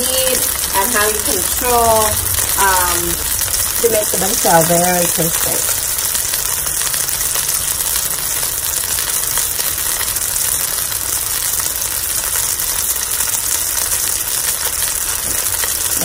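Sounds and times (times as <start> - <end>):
pancake sizzling in hot oil: 0.0 - 16.0.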